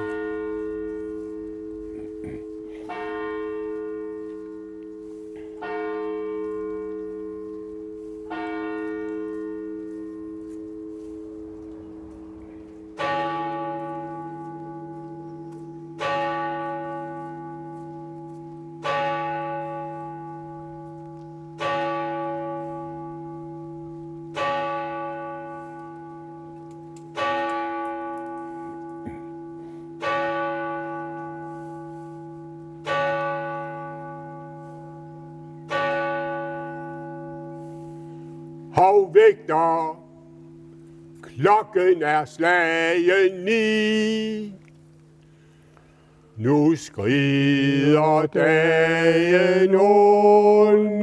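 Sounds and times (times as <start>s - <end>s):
church bell tolling: 0.0s - 44.5s, 46.4s - 51.0s.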